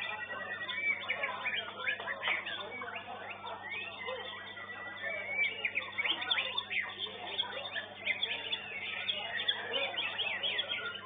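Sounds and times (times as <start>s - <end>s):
many songbirds singing: 0.0s - 11.0s.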